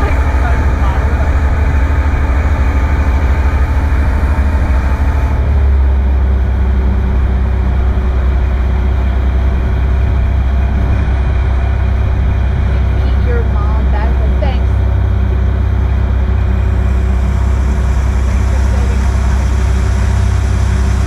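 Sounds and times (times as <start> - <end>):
boat engine rumble: 0.0 - 21.0.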